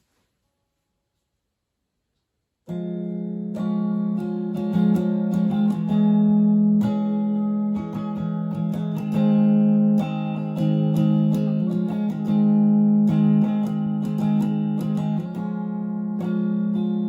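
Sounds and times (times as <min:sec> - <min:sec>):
electric guitar strummed chords: 0:02.7 - 0:17.0.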